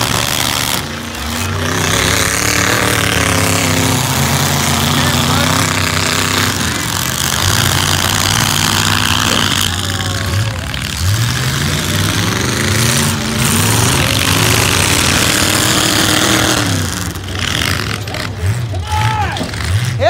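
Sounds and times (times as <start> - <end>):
pickup truck engines revving: 0.0 - 20.0.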